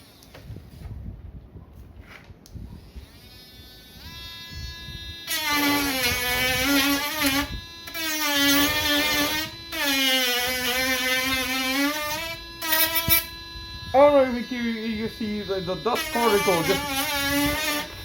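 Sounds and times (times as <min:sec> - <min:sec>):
rotary tool sanding whine: 0:02.8 - 0:18.0.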